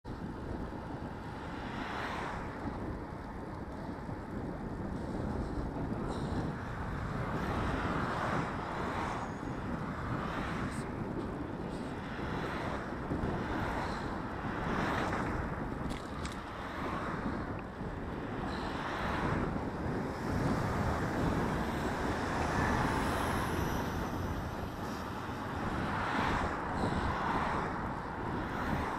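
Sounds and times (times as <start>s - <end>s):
road and tyre noise: 0.0s - 28.9s
wind buffeting microphone: 0.0s - 28.9s
cars swishing past: 1.6s - 2.6s, 6.2s - 28.9s.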